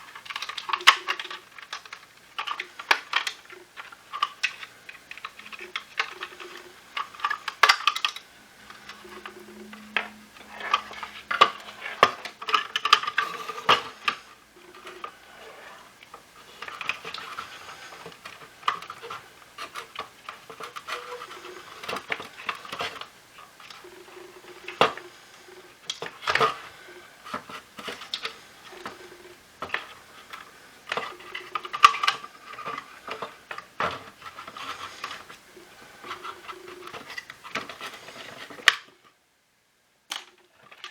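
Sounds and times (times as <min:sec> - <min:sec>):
plastic parts clicking and knocking: 0:00.0 - 0:39.2, 0:40.1 - 0:40.9.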